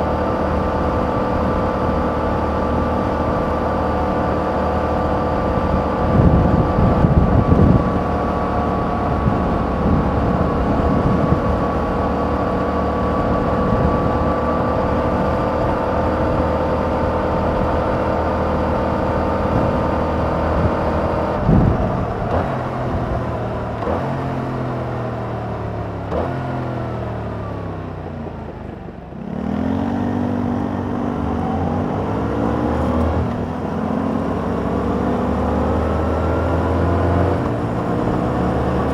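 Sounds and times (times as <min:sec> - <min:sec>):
motorcycle engine revving: 0:00.0 - 0:27.4, 0:29.0 - 0:38.9.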